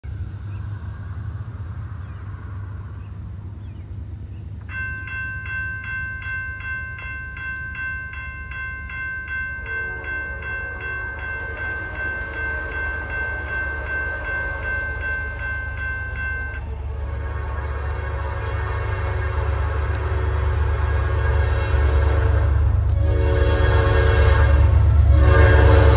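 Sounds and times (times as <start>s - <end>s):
train low rumble: 0.0s - 25.9s
railroad crossing bell ringing: 4.6s - 25.9s.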